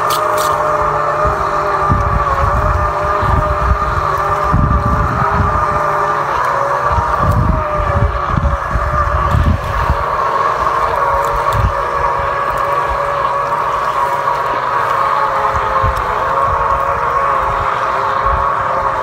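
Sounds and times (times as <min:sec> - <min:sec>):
boat motor humming: 0:00.0 - 0:19.0
wind buffeting microphone: 0:00.0 - 0:19.0.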